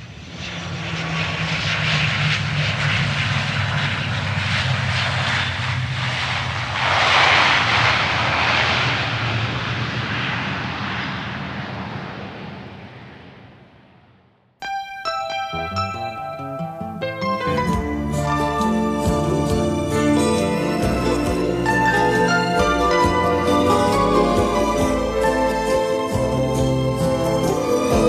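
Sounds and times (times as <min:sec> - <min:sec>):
rushing airflow roar: 0:00.0 - 0:14.4, 0:17.7 - 0:28.0
airliner engines humming: 0:00.0 - 0:28.0.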